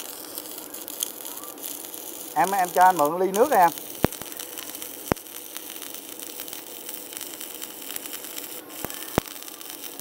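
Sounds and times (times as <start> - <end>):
welder electrical hum and hiss: 0.0 - 10.0.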